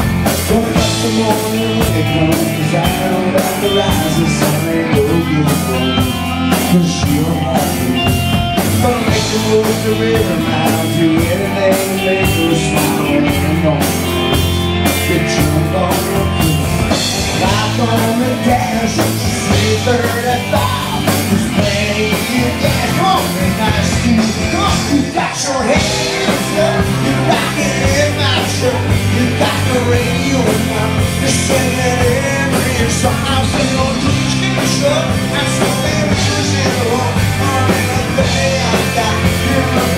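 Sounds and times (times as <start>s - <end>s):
bass guitar: 0.0s - 39.9s
drum kit beat: 0.0s - 39.9s
electric guitars: 0.0s - 39.9s
person singing: 0.0s - 39.9s.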